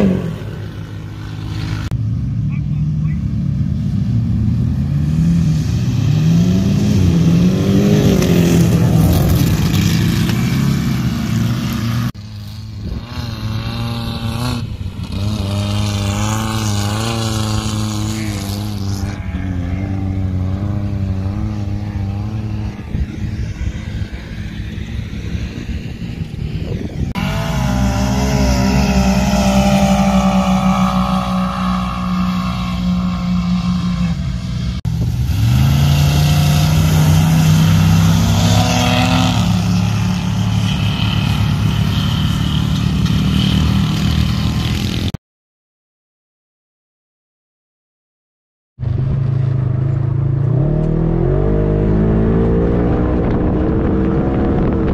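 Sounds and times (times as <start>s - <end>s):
engine revving: 0.0s - 45.2s, 48.8s - 54.9s.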